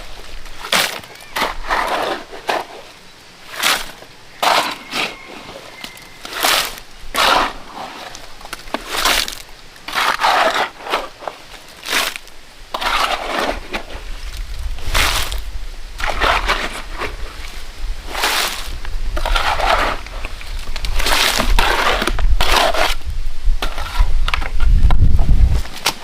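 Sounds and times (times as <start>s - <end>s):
shovel scraping through sand and cement: 0.0s - 24.8s.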